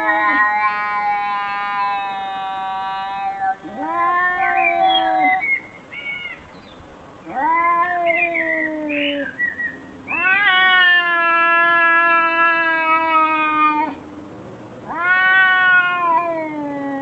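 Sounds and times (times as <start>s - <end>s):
cat meowing in yowls: 0.0s - 5.4s, 7.2s - 9.4s, 10.1s - 14.0s, 14.8s - 17.0s.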